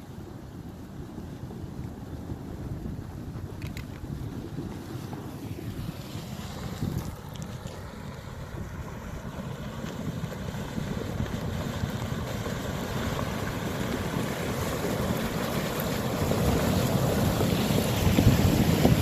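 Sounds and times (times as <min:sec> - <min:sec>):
wind buffeting microphone: 0:00.6 - 0:19.0
flood water rushing: 0:01.0 - 0:19.0.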